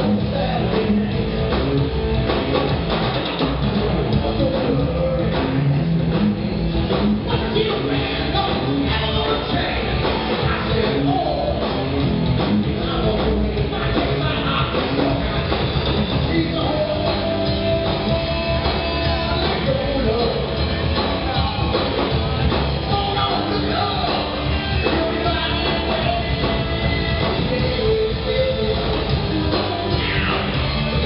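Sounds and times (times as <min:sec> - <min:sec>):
drum kit: 0:00.0 - 0:31.0
electric guitars: 0:00.0 - 0:31.0
person singing: 0:04.1 - 0:06.0, 0:07.2 - 0:11.9, 0:12.6 - 0:31.0.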